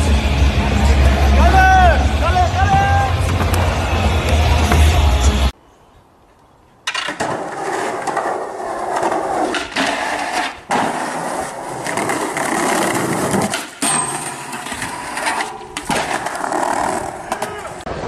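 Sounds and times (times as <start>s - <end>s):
skateboard wheels rolling on concrete: 0.0s - 18.0s.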